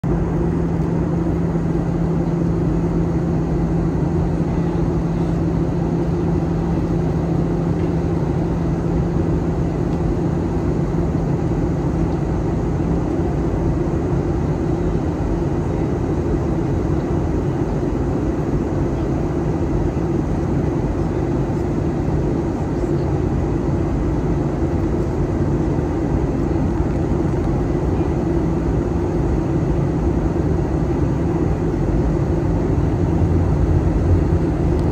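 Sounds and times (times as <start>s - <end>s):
airliner cabin engine roar: 0.0s - 34.9s.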